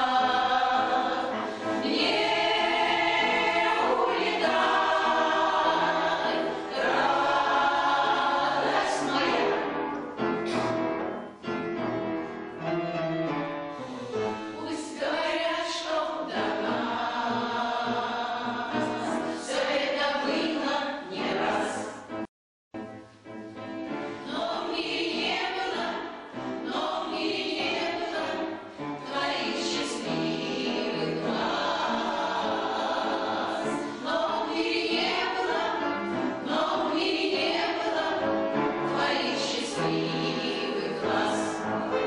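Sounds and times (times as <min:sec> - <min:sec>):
choir singing: 0:00.0 - 0:10.8, 0:14.3 - 0:22.1, 0:24.1 - 0:42.0
musical accompaniment: 0:00.0 - 0:42.0.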